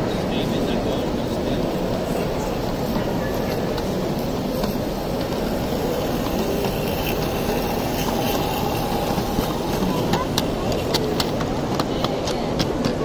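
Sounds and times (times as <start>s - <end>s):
exhibition hall rumble: 0.0s - 13.0s
steam hissing: 0.2s - 11.8s.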